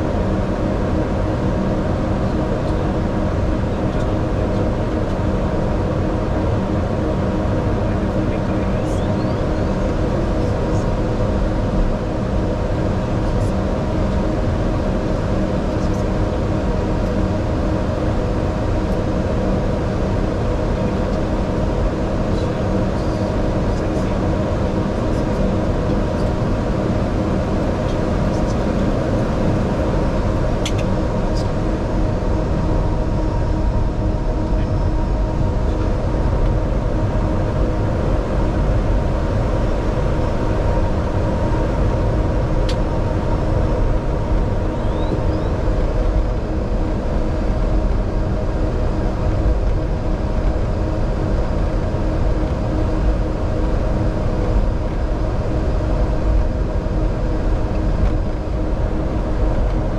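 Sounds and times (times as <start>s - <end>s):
airliner engines rumbling: 0.0s - 59.9s.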